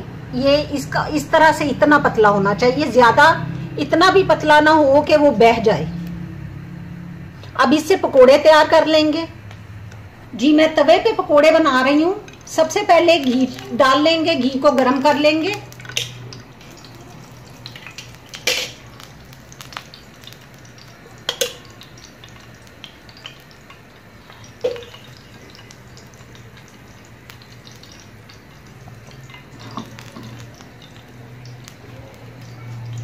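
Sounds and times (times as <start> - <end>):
thick liquid boiling in a pot: 0.0 - 33.0.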